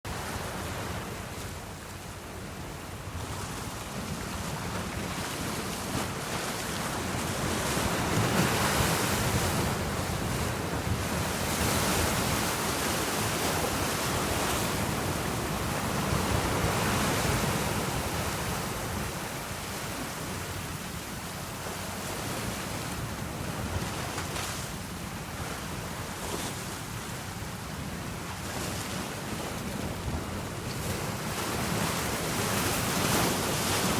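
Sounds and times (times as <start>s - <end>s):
sea waves on shore: 0.1s - 33.9s.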